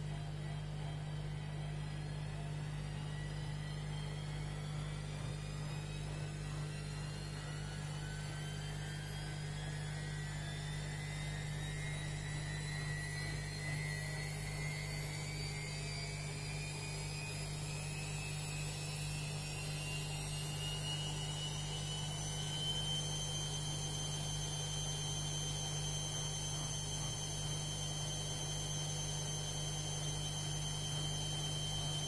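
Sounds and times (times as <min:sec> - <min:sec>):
steady low hum: 0:00.0 - 0:32.0
washing machine motor whine: 0:00.0 - 0:32.0.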